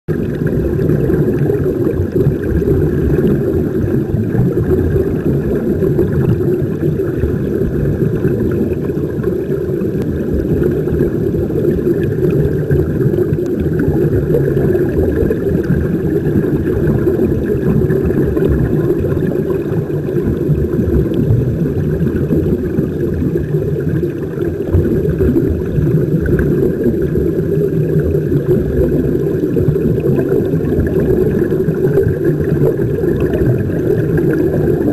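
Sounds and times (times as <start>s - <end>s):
air bubbling underwater: 0.1s - 34.9s
muffled underwater rumble: 0.1s - 34.9s.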